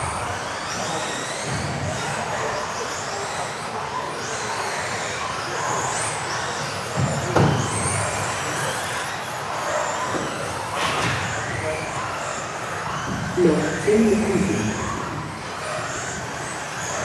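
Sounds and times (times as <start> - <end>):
rc buggy motors whining: 0.0 - 17.0.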